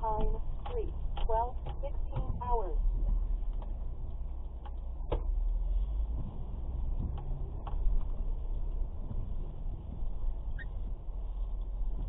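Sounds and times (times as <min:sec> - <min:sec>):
vehicle rumble from inside cabin: 0:00.0 - 0:12.0.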